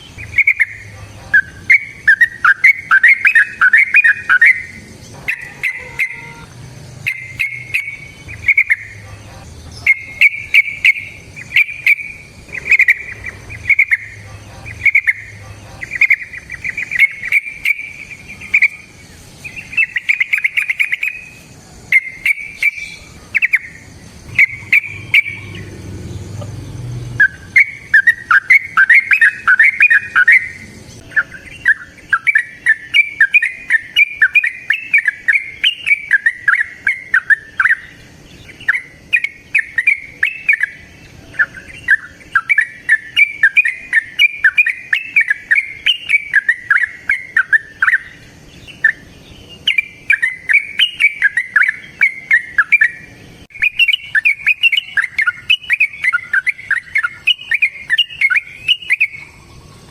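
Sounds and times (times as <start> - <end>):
bird singing warbling phrases: 0.0 - 59.9.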